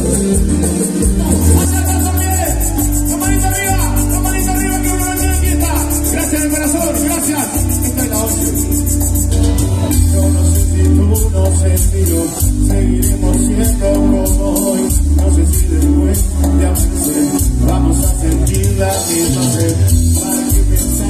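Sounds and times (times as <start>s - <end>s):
heavy pulsing bass: 0.0s - 21.0s
live cumbia band playing: 0.0s - 21.0s.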